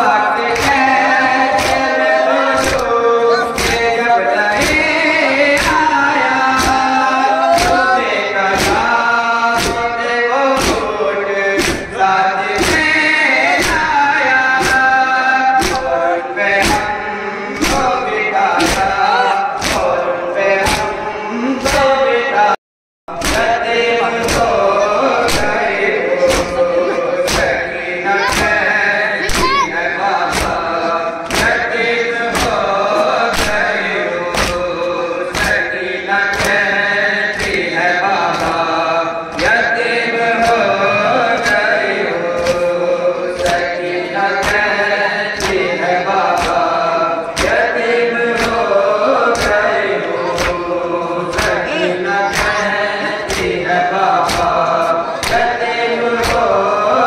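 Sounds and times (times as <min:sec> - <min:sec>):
men chanting in unison: 0:00.0 - 0:57.0
rhythmic chest-beating thumps: 0:00.0 - 0:57.0.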